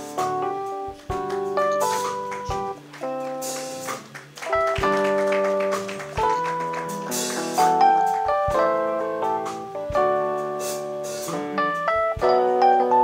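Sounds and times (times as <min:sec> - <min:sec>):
drum kit strokes: 0:00.0 - 0:13.0
keyboard chords: 0:00.0 - 0:13.0.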